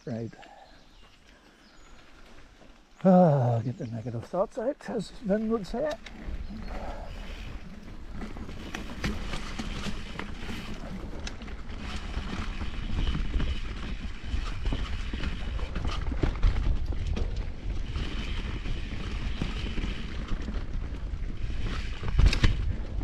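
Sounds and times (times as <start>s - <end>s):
bike tyres rumbling and rattling: 0.1s - 23.0s.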